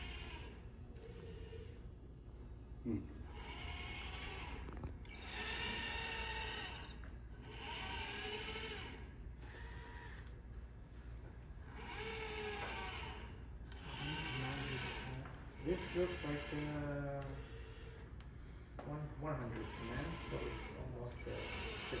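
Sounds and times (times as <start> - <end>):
robot arm motors whining: 0.0 - 1.8, 3.3 - 10.4, 11.0 - 18.2, 19.4 - 22.0.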